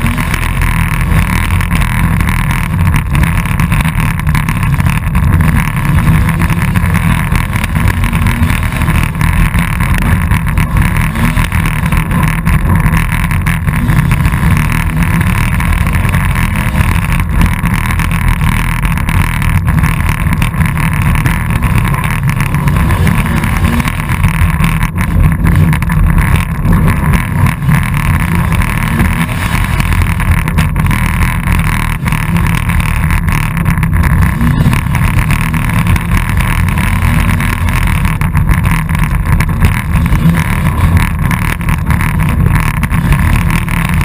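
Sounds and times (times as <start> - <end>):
race car engine running: 0.0 - 44.0.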